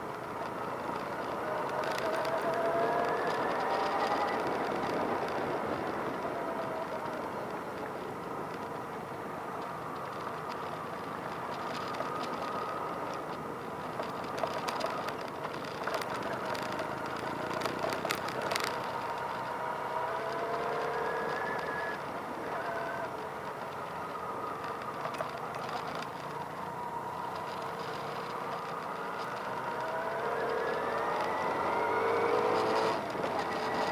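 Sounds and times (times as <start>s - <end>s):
motorcycle engines running: 0.0s - 33.9s.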